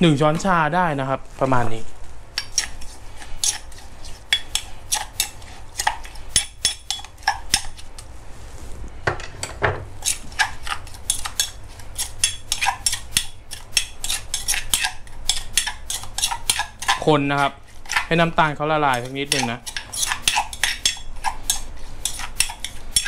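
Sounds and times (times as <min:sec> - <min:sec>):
metal spoon scraping stone mortar: 0:02.4 - 0:08.0, 0:10.0 - 0:23.0.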